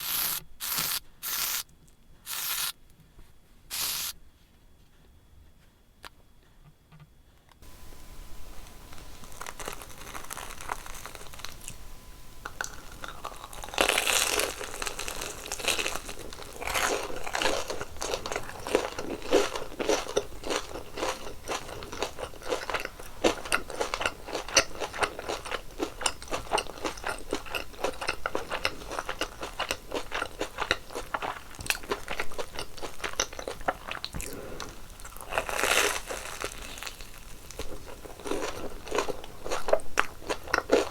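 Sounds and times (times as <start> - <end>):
loud crunchy bite: 0.0 - 1.6, 2.3 - 2.7, 3.7 - 4.1, 9.0 - 11.8, 12.5 - 40.9
crunchy chewing of fried doughnuts: 0.0 - 1.7, 8.3 - 40.9.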